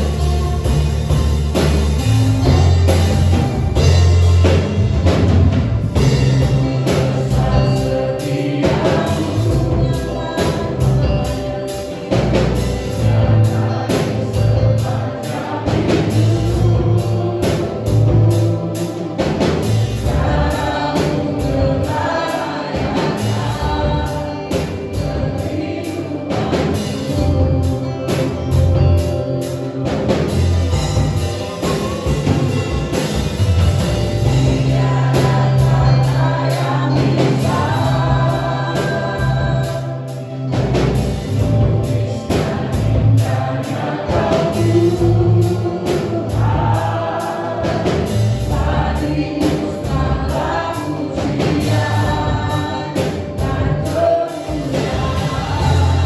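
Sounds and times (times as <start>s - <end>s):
drums and heavy bass: 0.0s - 56.0s
people singing worship song: 0.0s - 56.0s.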